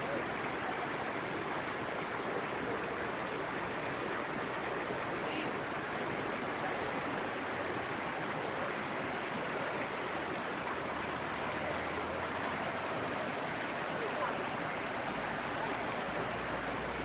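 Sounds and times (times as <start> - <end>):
rushing stream water: 0.0 - 17.0.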